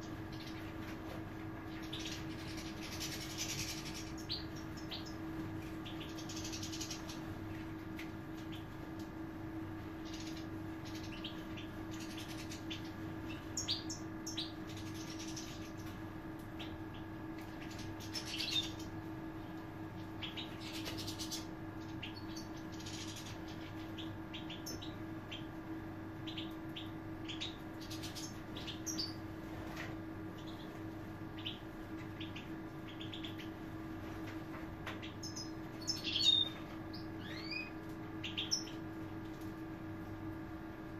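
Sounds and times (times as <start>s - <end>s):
birds chirping: 0.0s - 40.9s
steady low hum: 0.0s - 40.9s.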